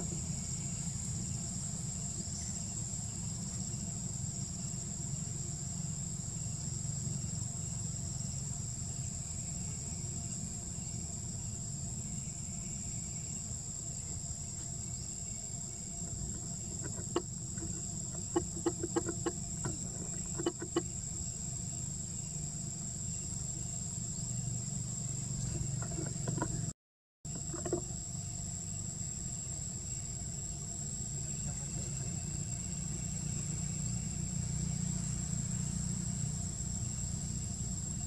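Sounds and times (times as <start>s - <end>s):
high-pitched insect drone: 0.0s - 26.7s, 27.3s - 38.0s.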